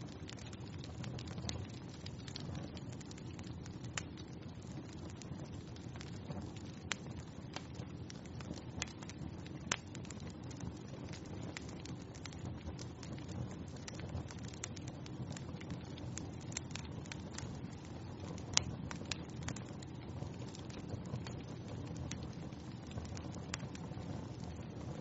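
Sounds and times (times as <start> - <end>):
fire burning: 0.0 - 25.0
fire crackling and popping: 0.0 - 25.0.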